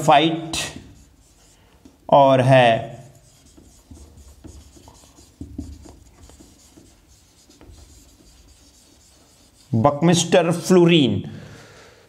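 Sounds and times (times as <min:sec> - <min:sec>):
marker scratching on whiteboard: 0:00.3 - 0:02.1, 0:02.9 - 0:11.0.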